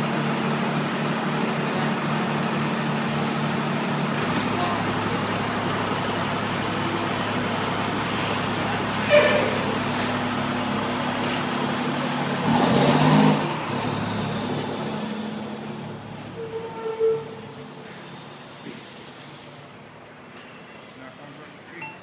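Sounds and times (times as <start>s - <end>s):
fire engine running: 0.0s - 22.0s.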